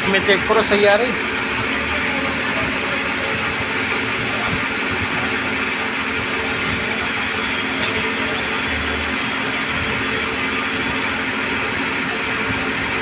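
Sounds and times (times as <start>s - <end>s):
lathe machine whir: 0.0s - 13.0s.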